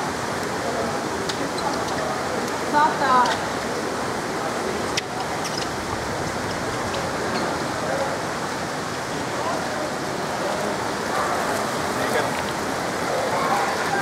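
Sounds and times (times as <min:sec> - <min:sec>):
water noise echoing in hall: 0:00.0 - 0:14.0.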